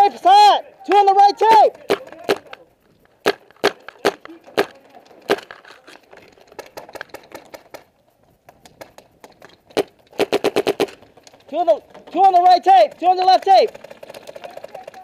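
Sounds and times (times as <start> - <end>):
paintball markers firing: 0.9 - 15.0.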